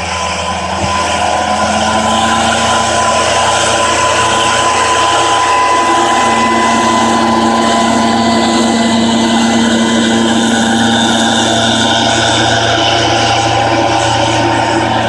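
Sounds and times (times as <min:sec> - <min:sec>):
mist blower engine running: 0:00.0 - 0:15.0.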